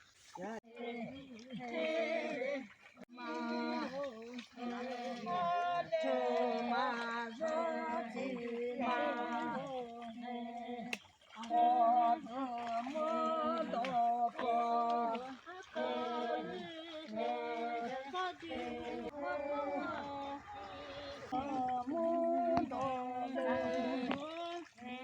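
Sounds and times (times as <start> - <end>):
voices chanting: 0.4 - 25.0.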